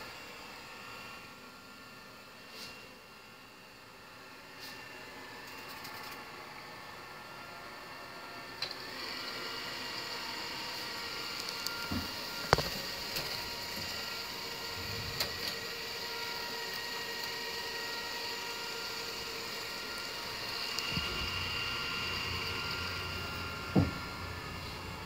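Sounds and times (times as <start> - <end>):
robot vacuum motor whine: 3.0 - 25.0.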